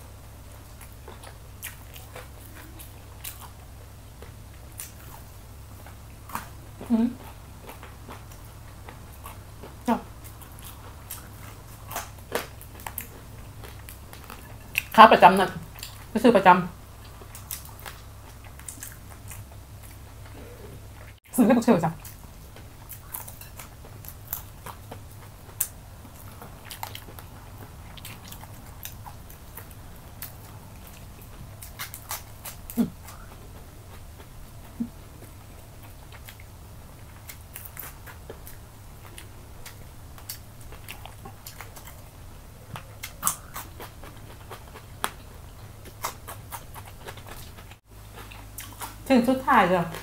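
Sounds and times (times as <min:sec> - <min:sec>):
chewing and crunching: 0:00.0 - 0:21.2, 0:21.8 - 0:50.0.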